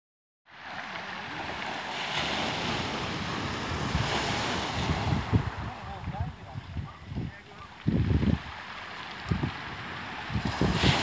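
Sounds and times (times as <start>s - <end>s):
waves washing onto pebble beach: 0.5s - 6.6s, 7.2s - 11.0s
wind buffeting microphone: 1.4s - 11.0s.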